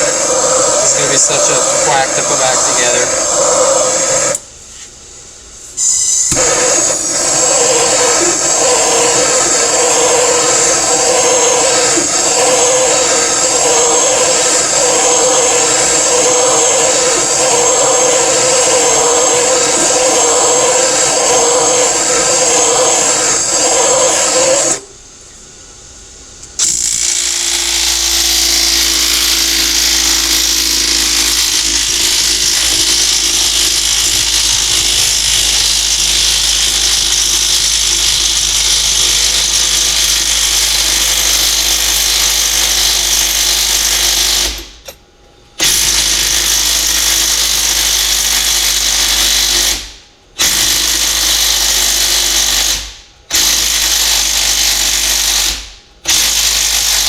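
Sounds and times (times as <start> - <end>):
power tool hissing and rattling: 0.0 - 5.0, 5.6 - 24.9, 26.4 - 45.0, 45.6 - 57.0.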